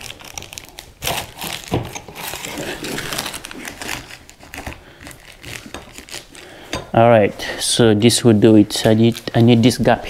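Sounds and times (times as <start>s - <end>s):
rustling and crinkling materials: 0.0s - 10.0s.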